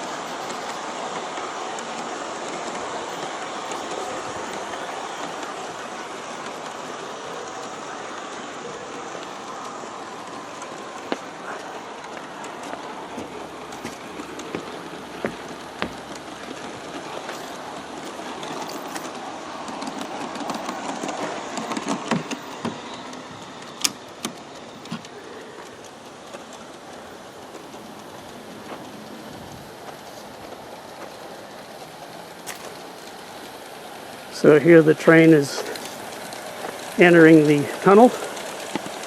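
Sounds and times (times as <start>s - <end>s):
model train wheels and motors rumbling: 0.0s - 39.0s
sharp clicks of track: 0.0s - 39.0s.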